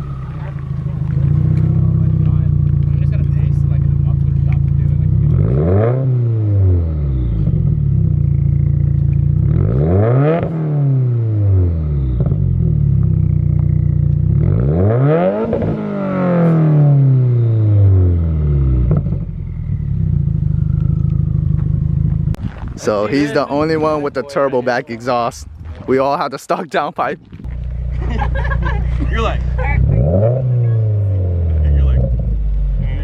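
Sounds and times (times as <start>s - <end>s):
car engine idling and revving: 0.0s - 22.4s, 27.4s - 33.0s.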